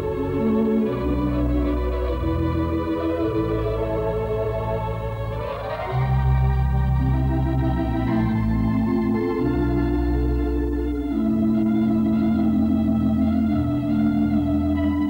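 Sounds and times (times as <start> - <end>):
organ music: 0.0 - 15.0.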